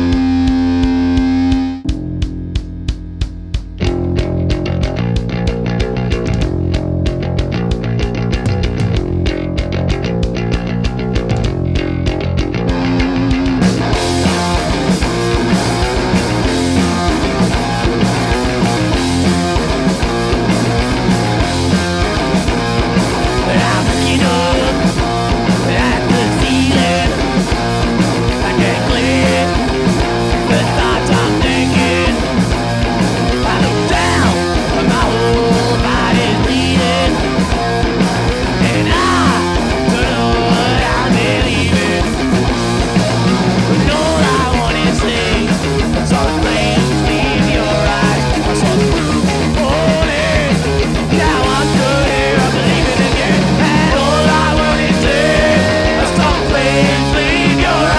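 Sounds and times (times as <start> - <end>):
bass guitar: 0.0 - 57.9
distorted electric guitar: 0.0 - 57.9
drums: 0.0 - 57.9.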